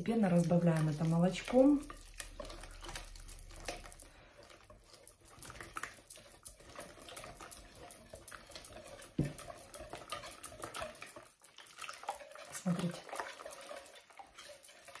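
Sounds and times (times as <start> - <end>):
whisk clicking in bowl: 0.0 - 4.1, 4.7 - 15.0
liquid sloshing: 0.0 - 15.0.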